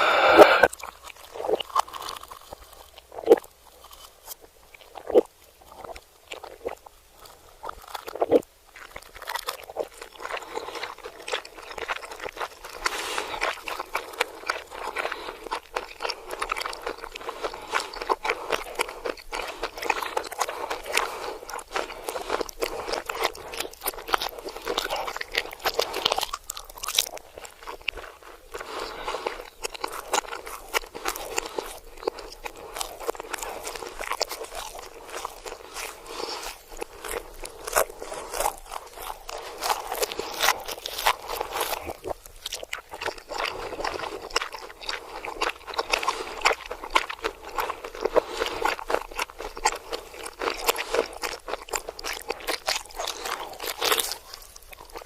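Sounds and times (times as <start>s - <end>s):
reversed crunchy chewing: 0.0s - 55.0s.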